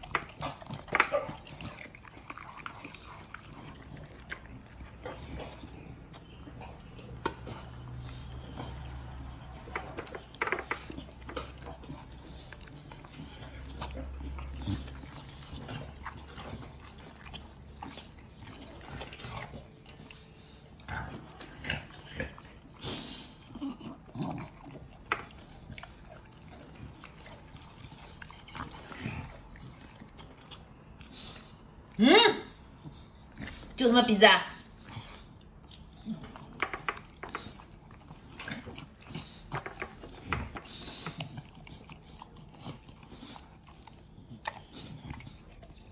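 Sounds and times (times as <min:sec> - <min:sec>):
dog chewing wetly: 0:00.0 - 0:32.0, 0:34.6 - 0:45.9.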